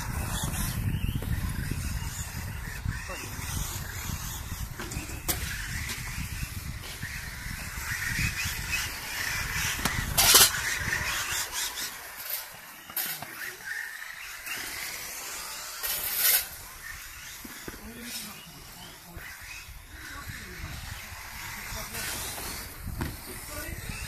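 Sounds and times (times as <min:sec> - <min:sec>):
rc car motor and tyres: 0:00.0 - 0:24.0.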